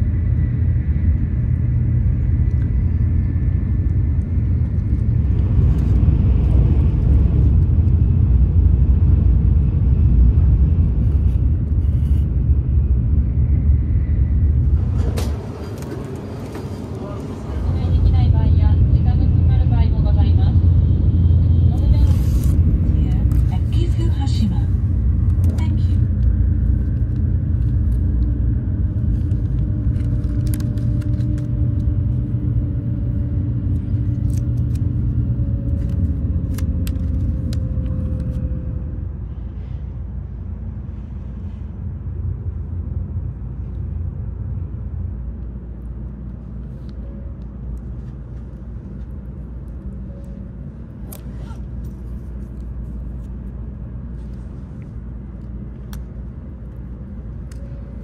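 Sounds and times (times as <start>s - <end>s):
train rumble in cabin: 0.0s - 58.0s.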